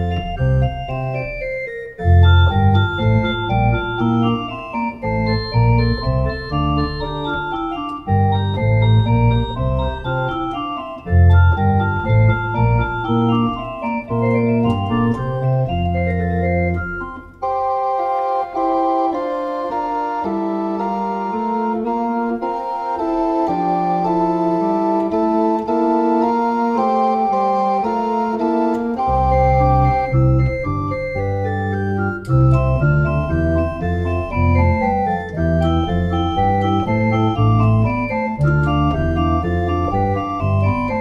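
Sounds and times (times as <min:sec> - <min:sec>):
organ playing sustained chords: 0:00.0 - 0:41.0.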